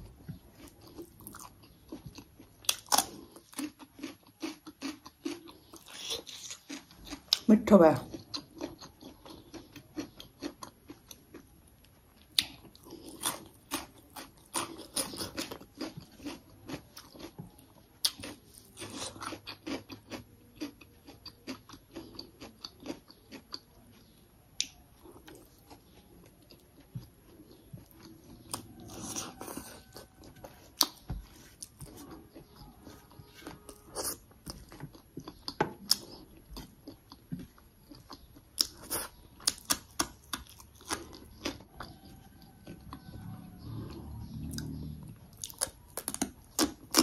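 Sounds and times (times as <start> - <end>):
person chewing food: 0.0 - 7.5, 8.1 - 47.0.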